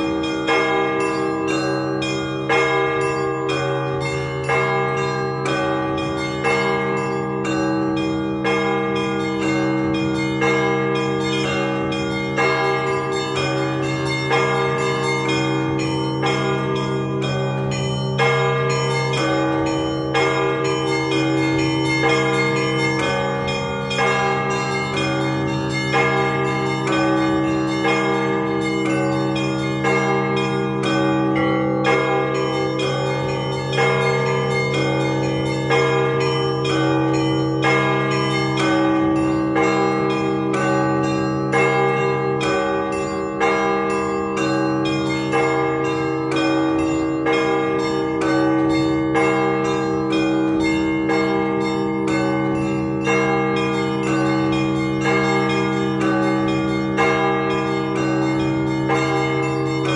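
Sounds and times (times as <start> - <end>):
deep bells ringing: 0.0 - 59.9
small bells struck rhythmically: 0.0 - 59.9.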